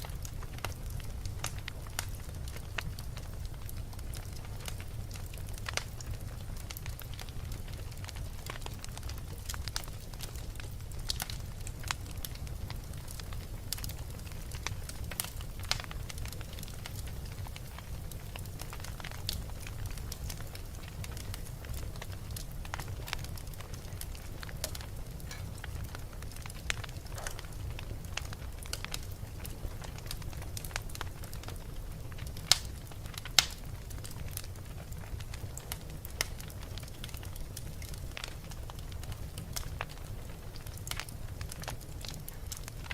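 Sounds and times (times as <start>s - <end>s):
fire crackling and popping: 0.0s - 42.9s.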